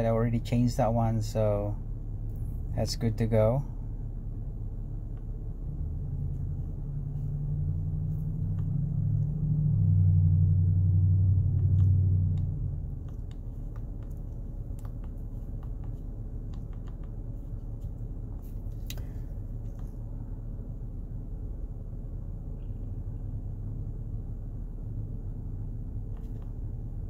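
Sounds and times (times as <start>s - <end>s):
car engine idling hum: 0.0s - 27.0s.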